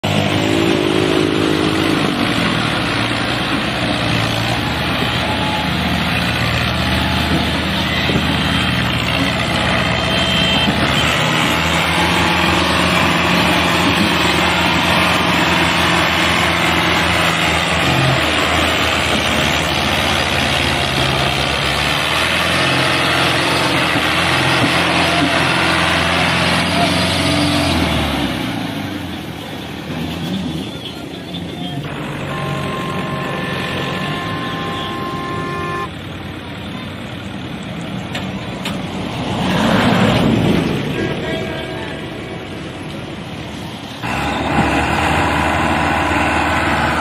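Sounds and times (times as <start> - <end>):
tractor engines under heavy load: 0.0 - 47.0.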